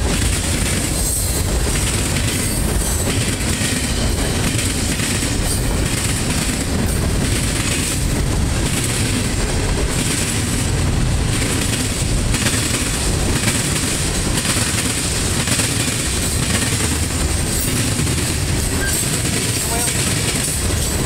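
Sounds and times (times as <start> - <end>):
train wheels clattering on rails: 0.0 - 21.0.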